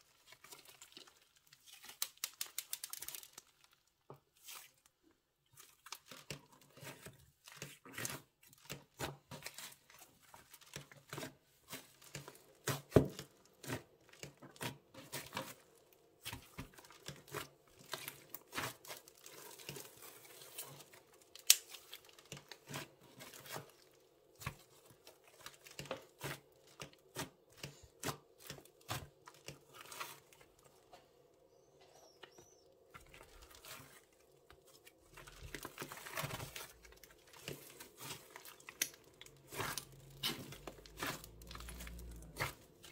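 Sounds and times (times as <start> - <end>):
slime crackling and tearing: 0.4 - 3.8, 7.7 - 30.6, 33.0 - 42.9.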